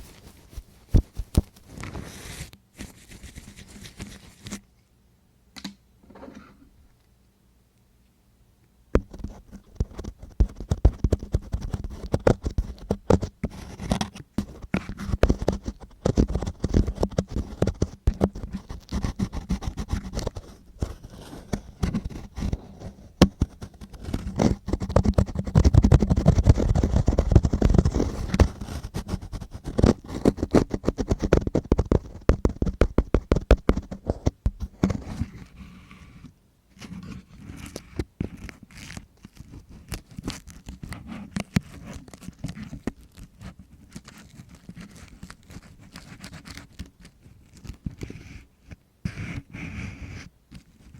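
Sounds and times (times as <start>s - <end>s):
tool scratching against microphone: 0.0s - 4.6s, 9.0s - 50.9s.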